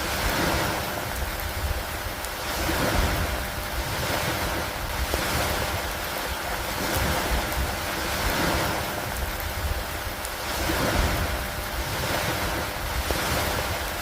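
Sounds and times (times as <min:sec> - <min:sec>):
gusty wind rumble: 0:00.0 - 0:14.0
steady rain falling: 0:00.0 - 0:14.0.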